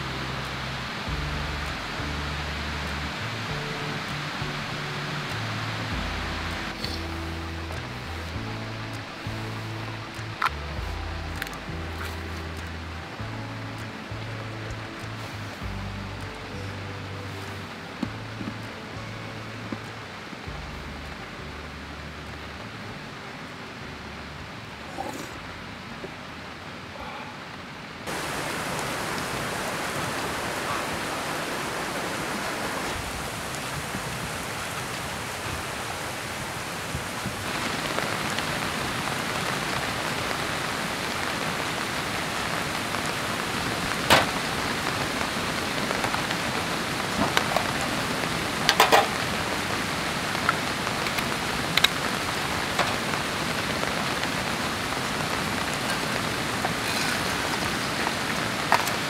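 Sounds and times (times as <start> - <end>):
rain on a fabric tarp: 0.0 - 59.0.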